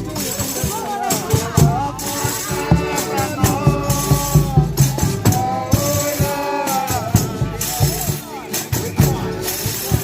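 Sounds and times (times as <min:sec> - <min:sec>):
drum strikes: 0:00.0 - 0:10.0
tambourine jingles: 0:00.0 - 0:10.0
voices singing in harmony: 0:00.0 - 0:10.0.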